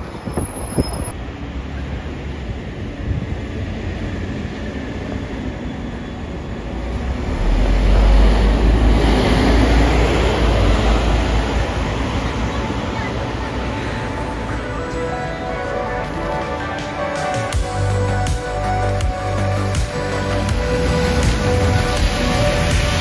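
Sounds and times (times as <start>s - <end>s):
bus passing close by: 0.0s - 23.0s
street traffic noise: 0.0s - 23.0s.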